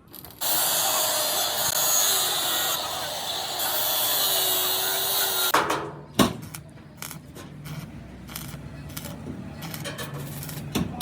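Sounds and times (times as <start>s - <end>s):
steady workshop noise: 0.0s - 11.0s.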